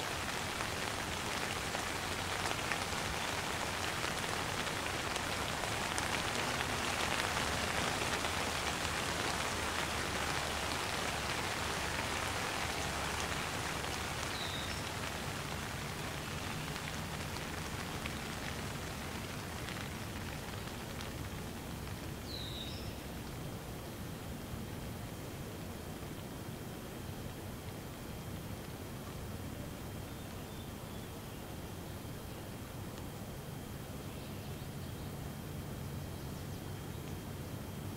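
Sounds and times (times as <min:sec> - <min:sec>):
light rain pattering: 0:00.0 - 0:37.9.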